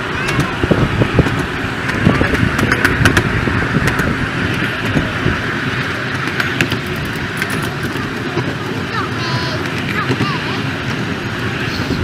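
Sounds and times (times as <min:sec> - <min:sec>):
rail clicks: 0:00.0 - 0:12.0
wheels rumbling on track: 0:00.0 - 0:12.0.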